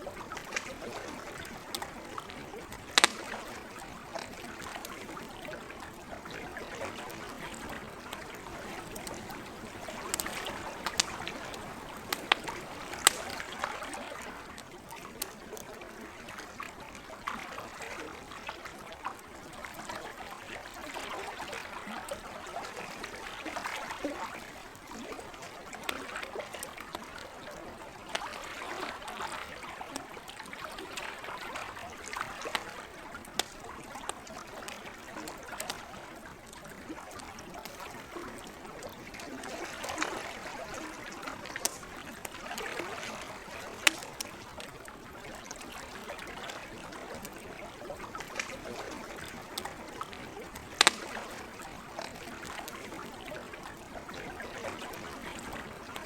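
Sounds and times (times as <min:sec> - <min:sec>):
campfire crackling and popping: 0:00.0 - 0:17.4, 0:22.0 - 0:56.0
lake water lapping: 0:00.0 - 0:56.0.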